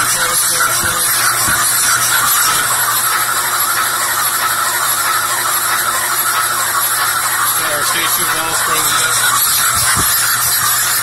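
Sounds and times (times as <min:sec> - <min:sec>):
engine spinning with mechanical whir: 0:00.0 - 0:11.0.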